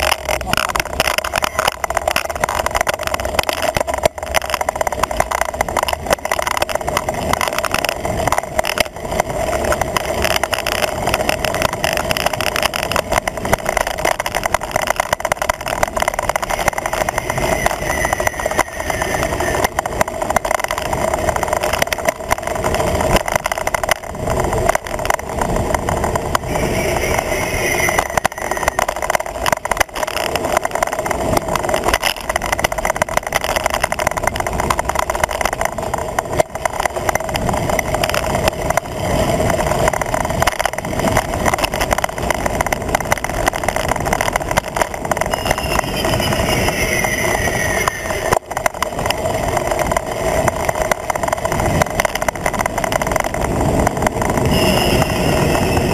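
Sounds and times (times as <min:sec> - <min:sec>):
road vibration knocking: 0:00.0 - 0:55.9
wind rushing over camera: 0:00.0 - 0:55.9.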